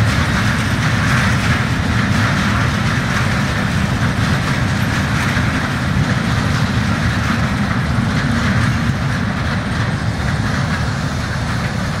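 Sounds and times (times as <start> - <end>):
train wheels rumbling on rails: 0.0 - 12.0
wheels clacking over rail joints: 0.0 - 12.0.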